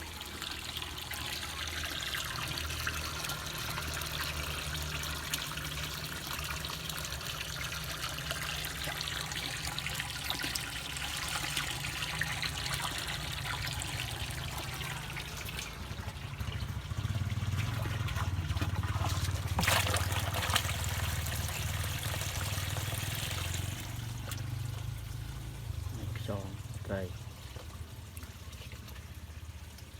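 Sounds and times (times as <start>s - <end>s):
water trickling and splashing: 0.0s - 29.9s.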